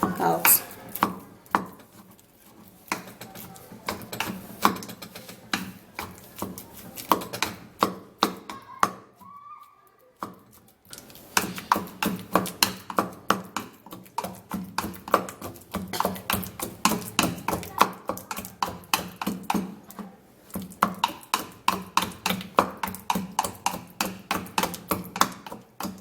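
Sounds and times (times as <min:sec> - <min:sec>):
pestle pounding in mortar: 0:02.8 - 0:09.1, 0:11.2 - 0:26.0.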